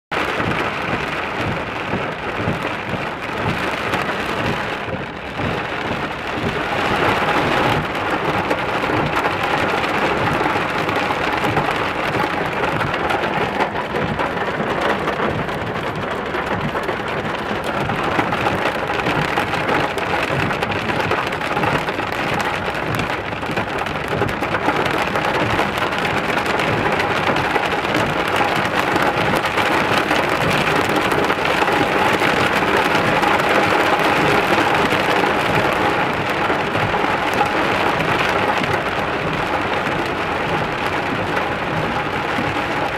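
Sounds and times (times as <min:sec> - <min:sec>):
heavy rain pouring: 0:00.1 - 0:42.9.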